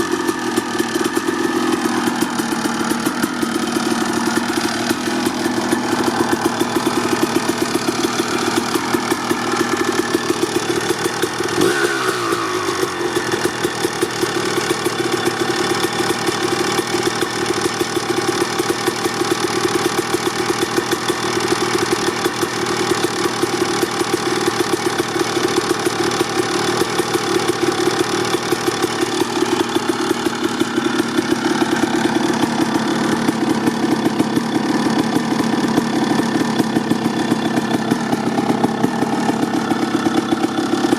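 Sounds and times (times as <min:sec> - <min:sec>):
two-stroke engine idling: 0:00.0 - 0:40.9.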